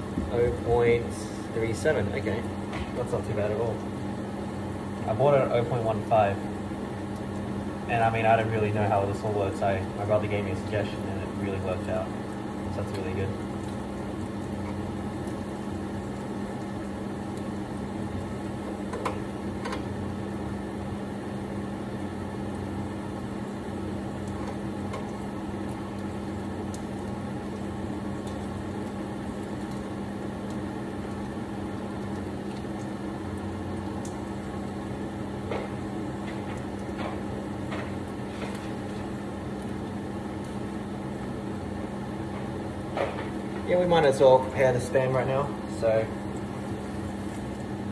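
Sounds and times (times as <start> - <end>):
range hood fan humming: 0.0 - 47.9.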